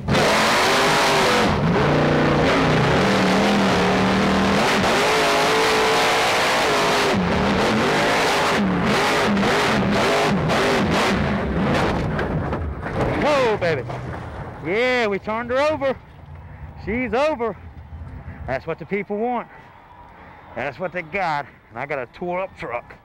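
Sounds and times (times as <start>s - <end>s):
truck engine revving: 0.0s - 18.5s.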